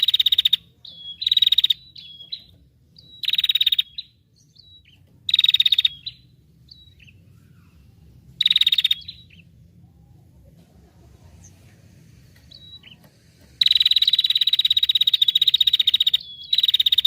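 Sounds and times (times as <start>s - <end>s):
songbird buzzy trill: 0.0s - 10.3s, 12.3s - 17.0s.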